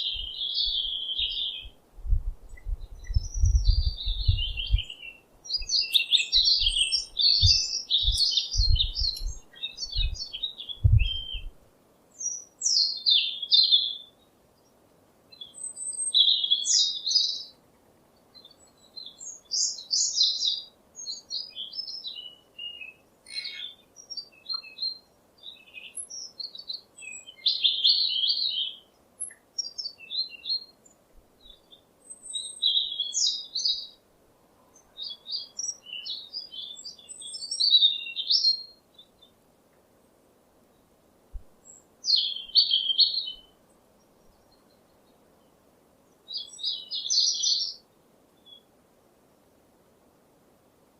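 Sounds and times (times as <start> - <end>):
small birds chirping: 0.0 - 48.8.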